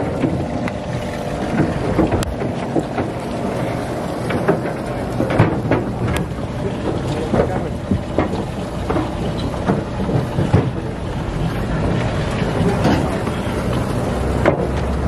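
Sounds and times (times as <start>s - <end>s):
low machinery hum: 0.0s - 15.0s
wind buffeting microphone: 0.0s - 15.0s.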